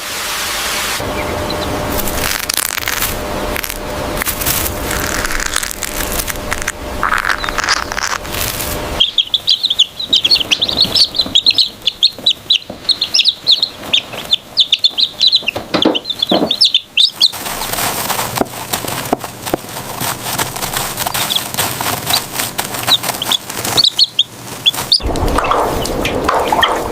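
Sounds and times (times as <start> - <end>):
chicks peeping: 0.8 - 26.9.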